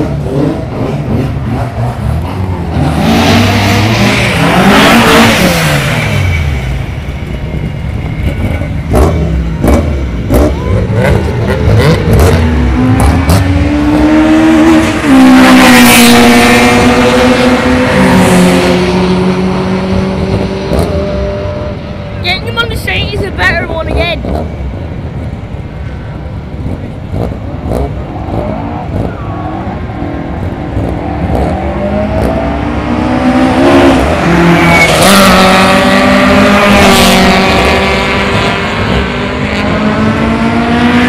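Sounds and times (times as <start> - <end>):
race car engines passing: 0.0 - 41.0.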